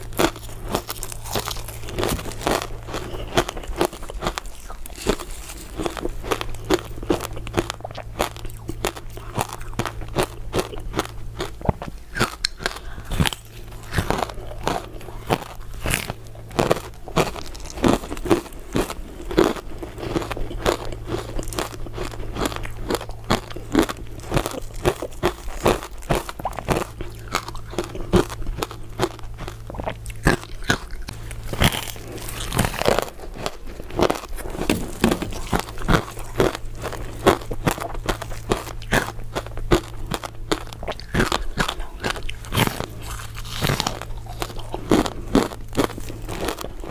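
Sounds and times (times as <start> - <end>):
crunchy ice dessert being chewed: 0.0 - 46.9.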